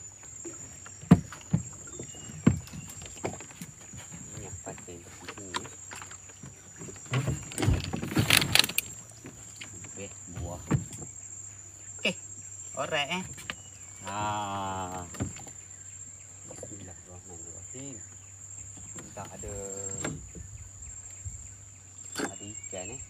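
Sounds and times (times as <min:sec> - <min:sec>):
high insect drone: 0:00.0 - 0:23.0.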